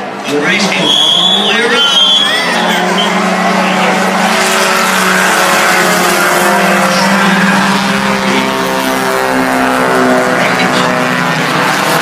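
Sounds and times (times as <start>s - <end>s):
race car engines running: 0.0s - 12.0s.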